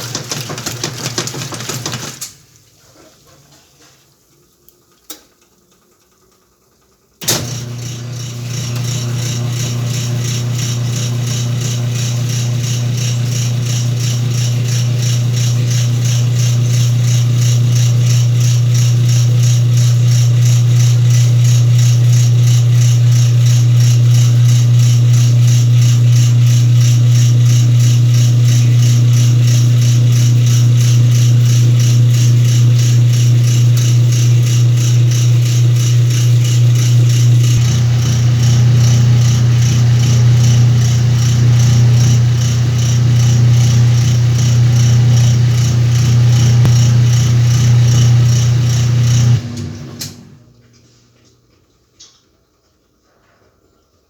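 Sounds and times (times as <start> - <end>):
washing machine running: 0.0 - 3.6, 7.2 - 50.6.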